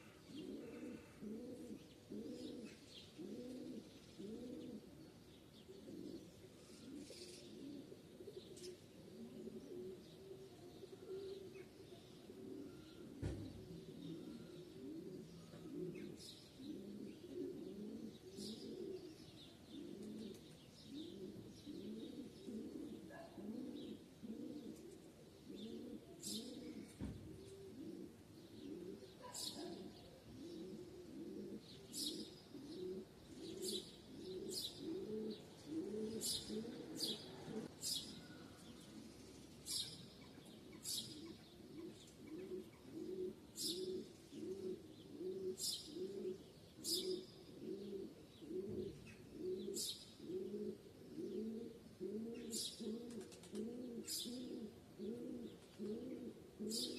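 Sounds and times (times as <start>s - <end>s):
pigeons cooing: 0.0s - 56.9s
small birds chirping: 0.0s - 56.9s.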